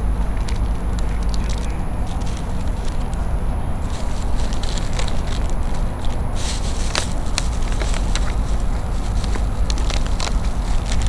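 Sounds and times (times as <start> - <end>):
light crackles and clicks: 0.0 - 11.0
low unsteady rumble: 0.0 - 11.0.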